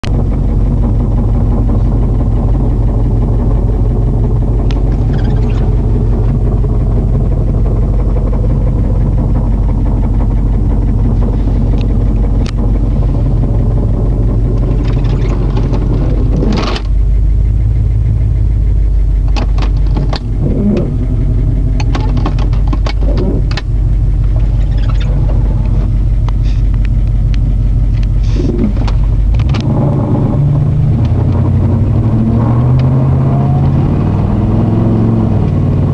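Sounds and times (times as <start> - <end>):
car engine rumbling: 0.0 - 35.9.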